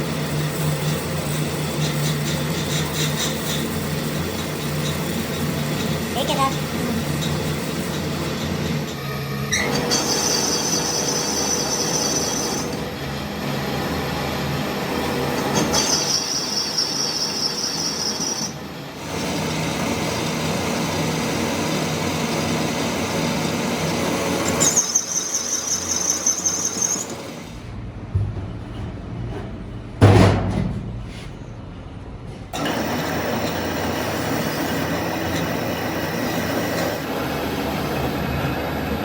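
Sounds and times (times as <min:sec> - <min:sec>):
metalworking machine running: 0:00.0 - 0:31.1, 0:32.5 - 0:39.0.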